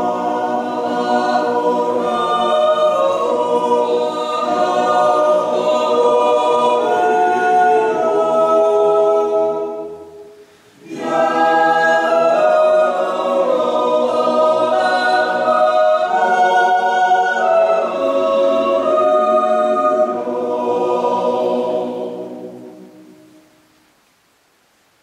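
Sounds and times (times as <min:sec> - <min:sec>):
choir yodeling a cappella: 0:00.0 - 0:23.4.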